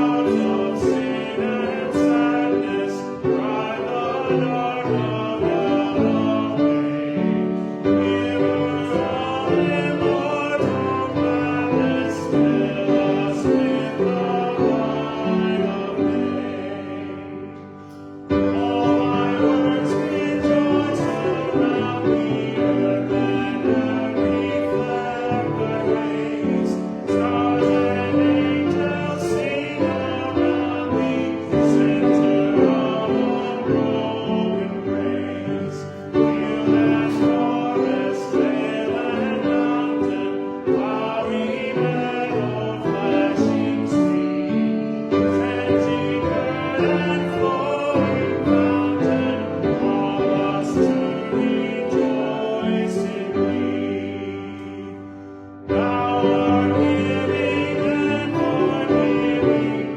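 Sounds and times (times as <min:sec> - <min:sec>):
voices singing: 0:00.0 - 0:59.9.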